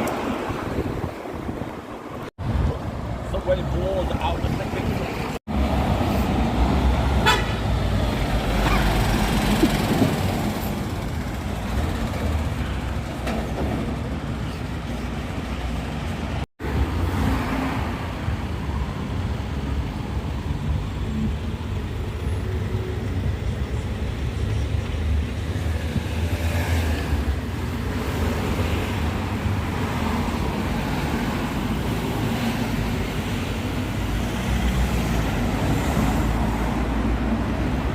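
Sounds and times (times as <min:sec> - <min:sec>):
large vehicle engines rumbling: 0:00.0 - 0:37.9
traffic noise: 0:00.0 - 0:37.9.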